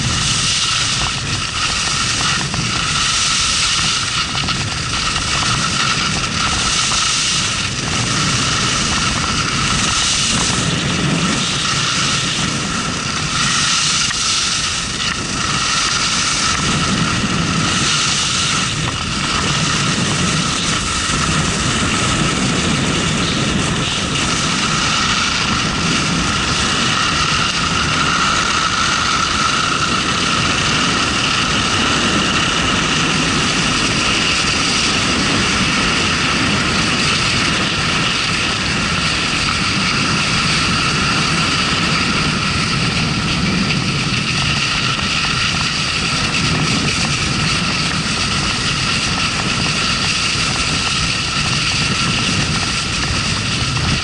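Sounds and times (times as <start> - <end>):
skis sliding over snow: 0.0 - 54.0
wind rushing on microphone: 0.0 - 54.0.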